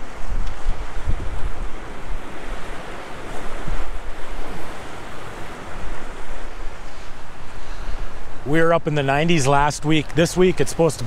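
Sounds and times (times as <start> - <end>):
waves splashing on rocky shore: 0.0 - 11.0
wind buffeting microphone: 0.0 - 11.0.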